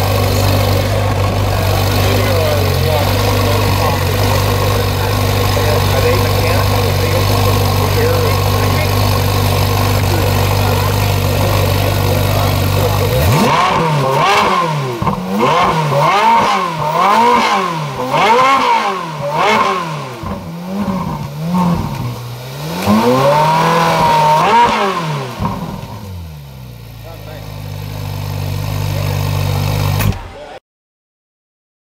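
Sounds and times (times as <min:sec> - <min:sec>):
car engine idling and revving: 0:00.0 - 0:30.6.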